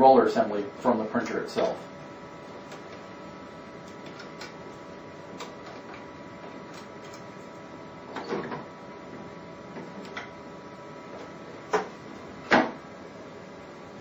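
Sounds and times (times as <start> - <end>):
printer hum: 0.0 - 14.0.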